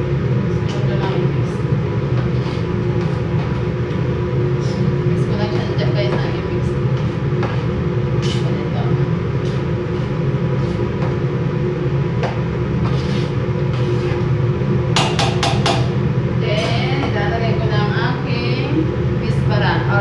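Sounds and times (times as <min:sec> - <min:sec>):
extractor fan drone: 0:00.0 - 0:20.0.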